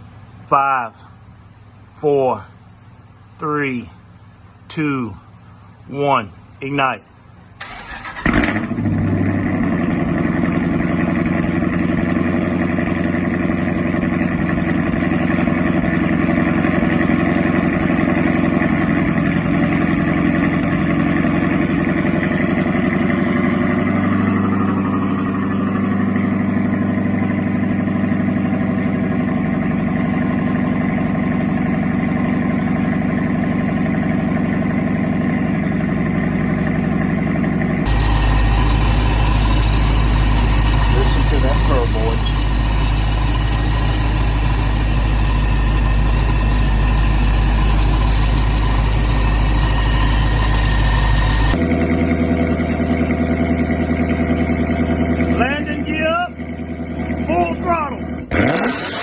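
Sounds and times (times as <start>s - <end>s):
car engine starting and idling: 7.1s - 59.0s.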